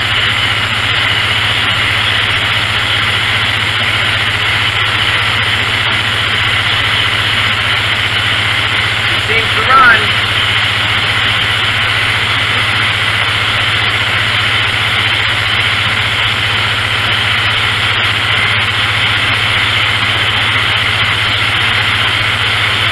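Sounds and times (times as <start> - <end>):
generator engine running: 0.0 - 22.9.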